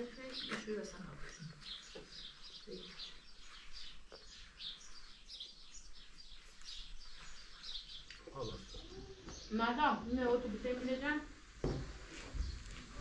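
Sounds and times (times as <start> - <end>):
small birds chirping: 0.0 - 11.3, 12.2 - 13.0.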